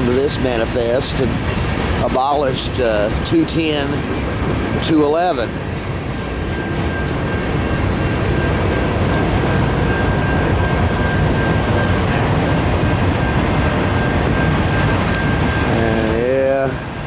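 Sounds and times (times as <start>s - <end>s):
freight train wheels clattering on rail: 0.0s - 17.0s.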